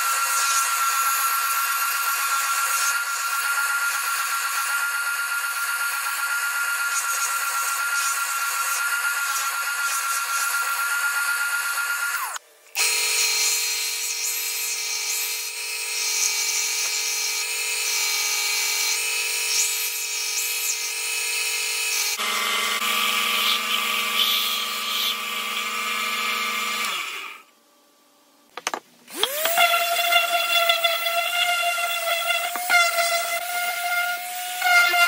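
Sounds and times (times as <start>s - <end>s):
belt sander motor whine: 0.1s - 27.5s, 29.1s - 30.2s.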